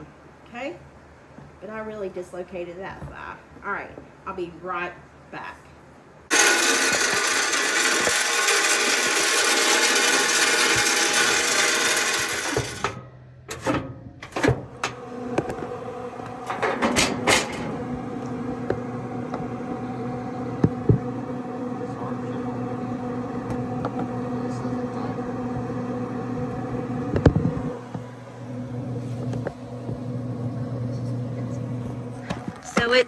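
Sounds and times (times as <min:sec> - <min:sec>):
fan and motor hum: 0:00.0 - 0:33.0.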